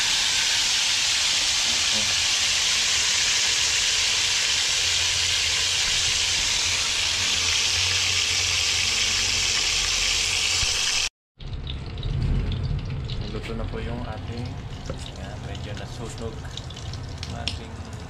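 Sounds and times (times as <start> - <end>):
food sizzling in hot oil: 0.0 - 17.6.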